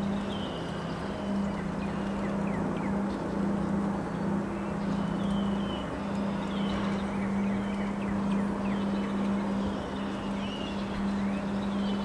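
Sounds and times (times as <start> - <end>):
constant low hum: 0.0 - 12.0
small birds chirping: 0.0 - 12.0.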